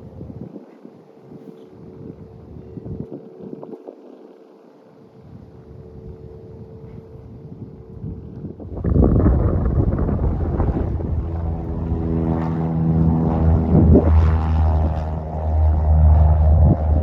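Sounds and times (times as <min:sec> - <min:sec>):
wind on microphone: 0:00.0 - 0:04.4, 0:05.2 - 0:17.0
propeller airplane engine: 0:01.6 - 0:17.0.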